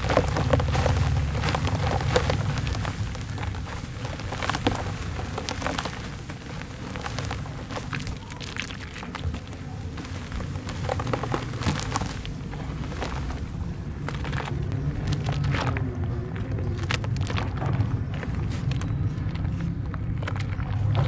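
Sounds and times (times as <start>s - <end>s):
dirt crumbling into water: 0.0s - 21.0s
low rumble: 0.0s - 21.0s
small crackles: 0.0s - 21.0s.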